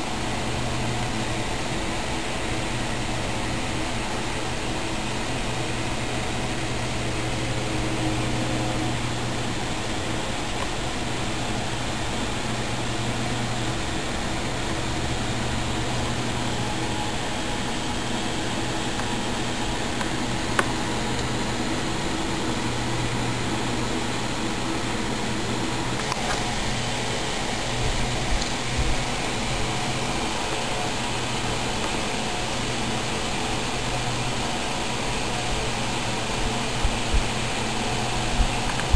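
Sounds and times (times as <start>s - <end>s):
machine hum with hiss: 0.0s - 38.9s.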